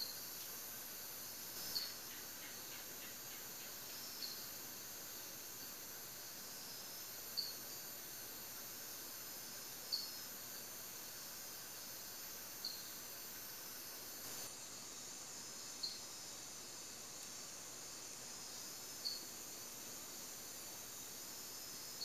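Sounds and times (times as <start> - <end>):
insect chorus hiss: 0.0 - 22.0.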